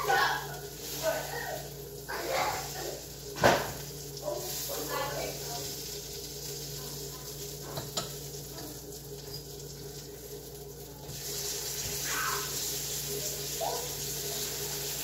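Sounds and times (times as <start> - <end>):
patties sizzling in a frying pan: 0.0 - 15.0.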